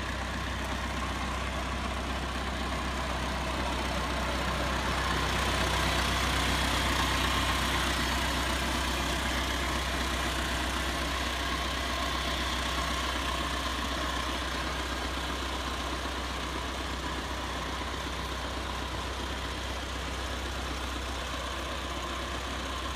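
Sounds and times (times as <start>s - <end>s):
tractor engine idling: 0.0s - 22.9s.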